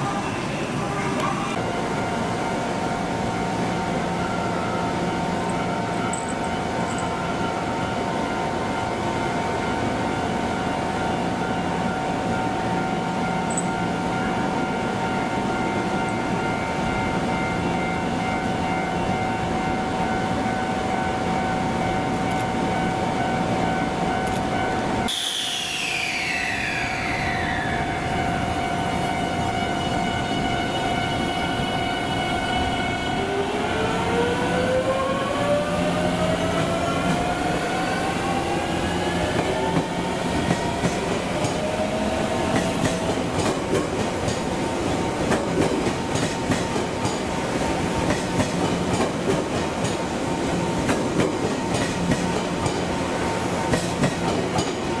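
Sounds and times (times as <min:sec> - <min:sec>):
electric train whine: 0:00.0 - 0:55.0.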